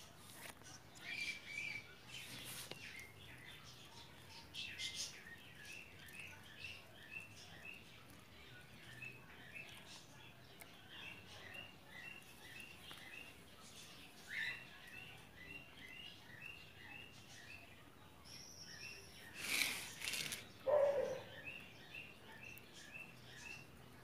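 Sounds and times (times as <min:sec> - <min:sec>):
bird chirping: 0:00.6 - 0:24.0.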